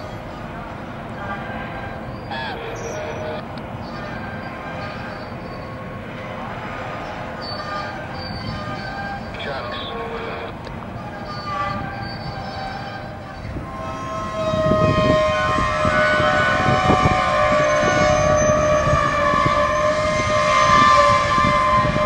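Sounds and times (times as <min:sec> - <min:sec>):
rumble and knocking of freight cars: 0:00.0 - 0:22.0
train wheels squealing on rails: 0:00.0 - 0:22.0.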